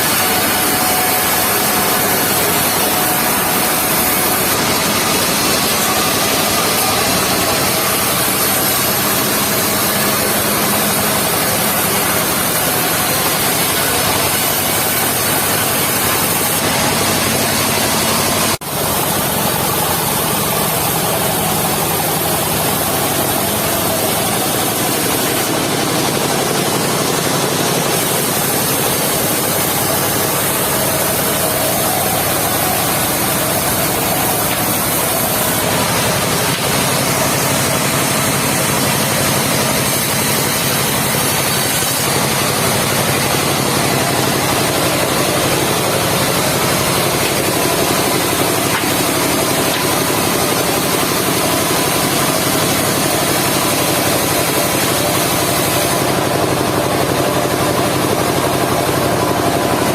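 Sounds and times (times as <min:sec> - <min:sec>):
sawmill engine and saw running: 0:00.0 - 0:59.9.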